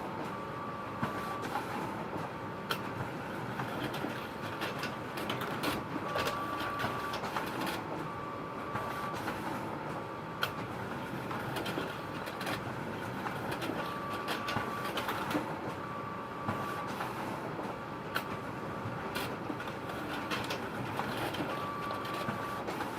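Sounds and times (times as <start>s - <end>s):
photocopier whirring: 0.0s - 22.9s.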